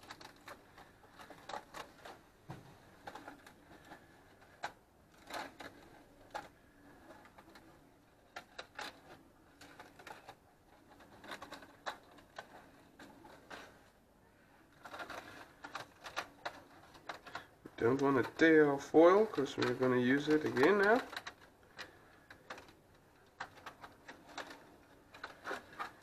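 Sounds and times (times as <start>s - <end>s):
aluminium foil crinkling: 0.0s - 26.0s.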